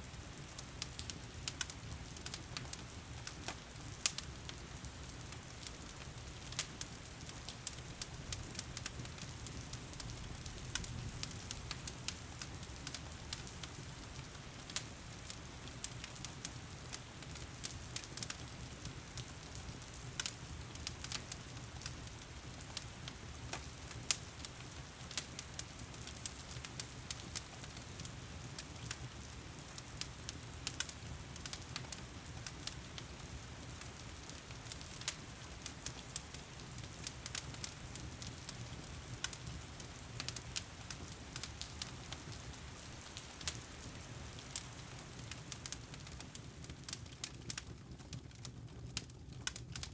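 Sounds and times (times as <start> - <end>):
wood fire crackling and popping: 0.1 - 49.9.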